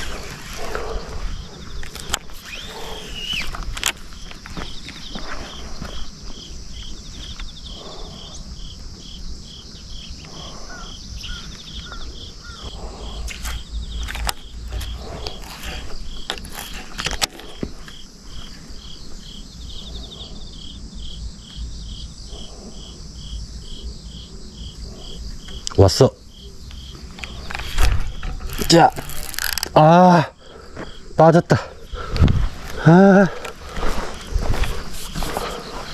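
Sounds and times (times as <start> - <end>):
insects chirping: 0.0 - 35.9.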